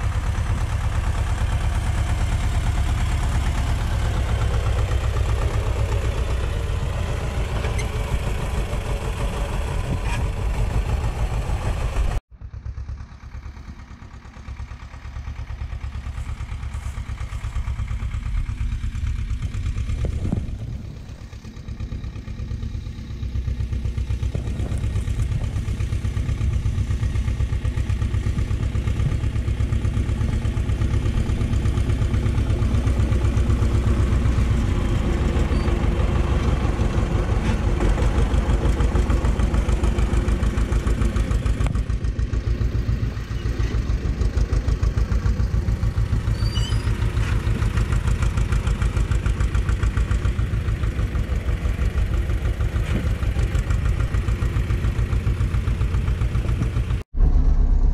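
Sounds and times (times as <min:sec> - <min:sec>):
tractor diesel engine pulsing: 0:00.0 - 0:57.9.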